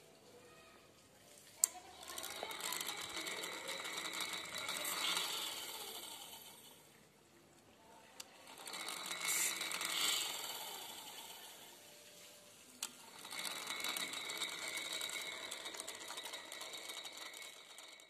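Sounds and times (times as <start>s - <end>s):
loom feeder mechanical whir: 0.0s - 18.0s.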